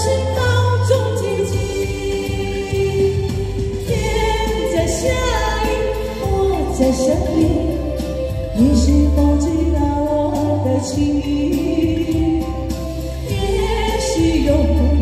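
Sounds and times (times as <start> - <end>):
backing music with bass line: 0.0 - 15.0
woman singing into microphone: 0.0 - 15.0.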